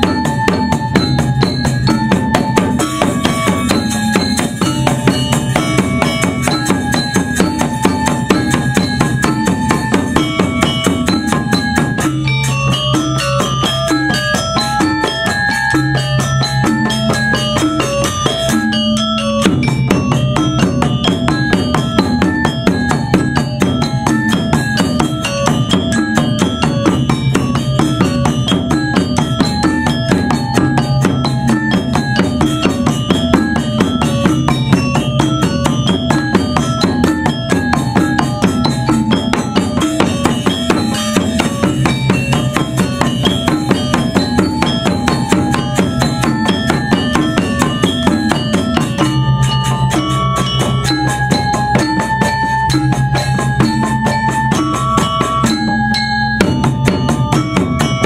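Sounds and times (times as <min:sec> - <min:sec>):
metallophones struck with mallets: 0:00.0 - 0:58.0
two-headed drums: 0:00.0 - 0:58.0.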